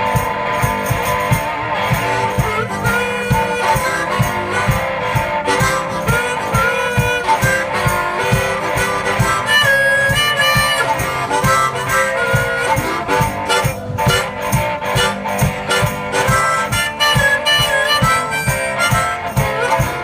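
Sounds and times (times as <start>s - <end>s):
guitar: 0.0s - 20.0s
harmonica solo: 0.0s - 20.0s
low thumping beat: 0.0s - 20.0s.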